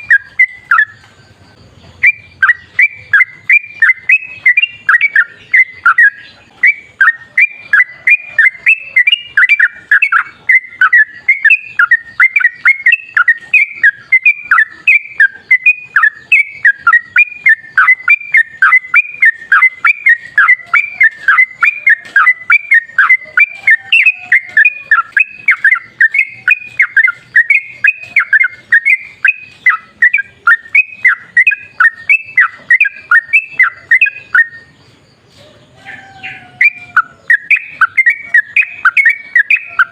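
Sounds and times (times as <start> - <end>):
bird singing rapid bubbly notes: 0.0 - 35.1, 36.4 - 39.9.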